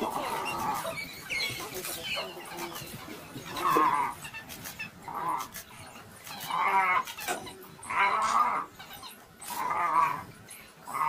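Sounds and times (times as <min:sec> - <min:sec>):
wild dogs wavering cries: 0:00.0 - 0:11.0.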